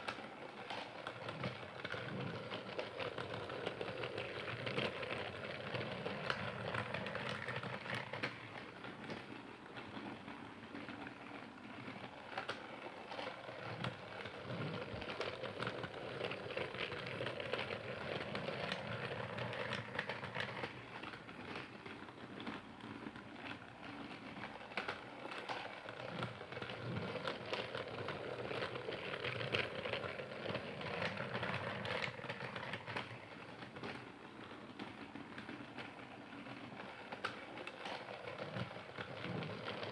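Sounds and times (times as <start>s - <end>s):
toy train clattering on track: 0.0s - 10.1s, 10.7s - 39.9s.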